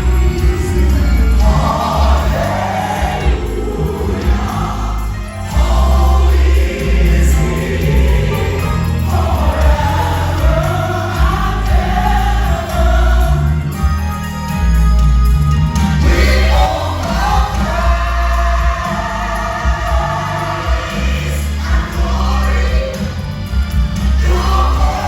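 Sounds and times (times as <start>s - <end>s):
group singing gospel: 0.0s - 14.6s, 15.9s - 25.0s
band with heavy bass: 0.0s - 25.0s.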